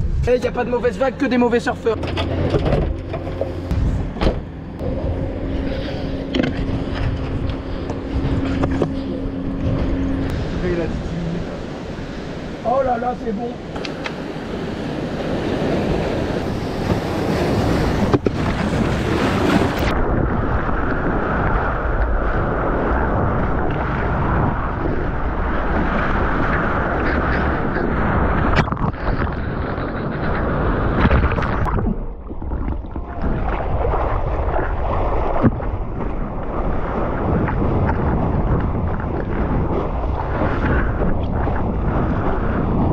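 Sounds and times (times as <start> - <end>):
rushing surf and spray: 0.0 - 42.9
wind buffeting microphone: 0.0 - 42.9.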